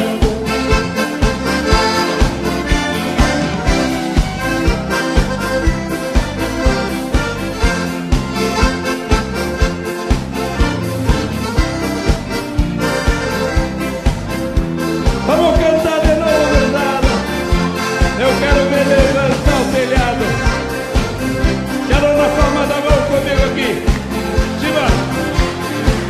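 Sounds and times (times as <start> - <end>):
accordion music with bass and drums: 0.0 - 26.0.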